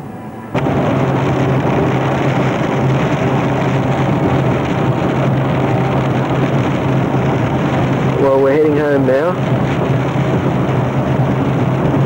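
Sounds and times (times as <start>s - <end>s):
low engine drone: 0.0s - 12.0s
tyre and wind noise: 0.5s - 12.0s.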